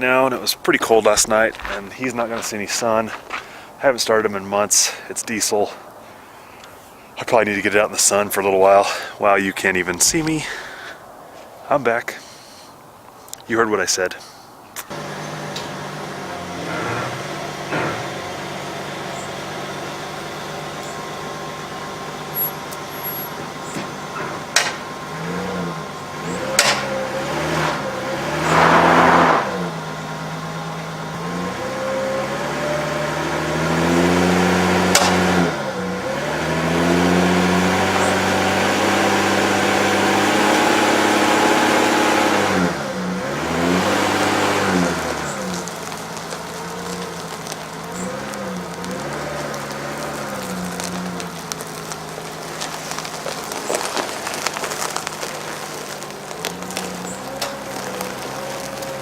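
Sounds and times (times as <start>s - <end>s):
vehicle engine revving: 0.0s - 4.2s, 14.8s - 59.0s.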